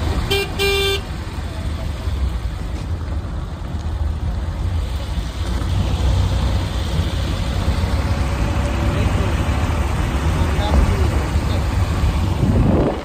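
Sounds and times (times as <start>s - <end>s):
car driving low rumble: 0.0s - 13.0s.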